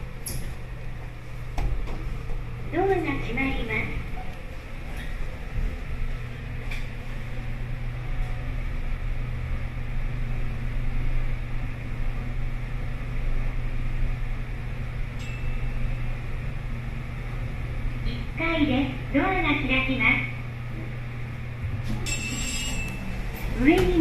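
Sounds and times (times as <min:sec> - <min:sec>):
elevator hum and rumble: 0:00.0 - 0:24.0.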